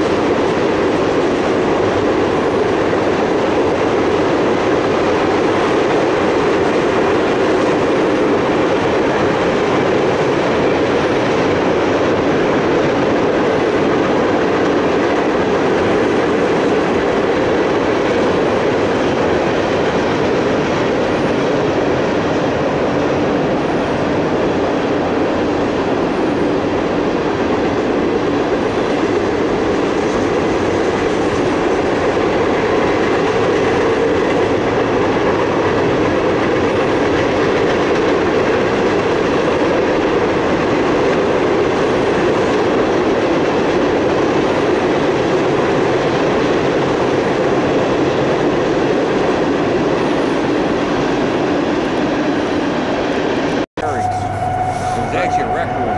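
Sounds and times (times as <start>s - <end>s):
train wheels rolling on rails: 0.0s - 55.9s.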